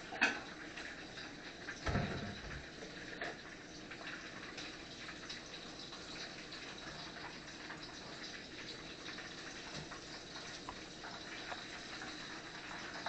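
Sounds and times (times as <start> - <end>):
oil sizzling in a skillet: 0.0 - 13.0.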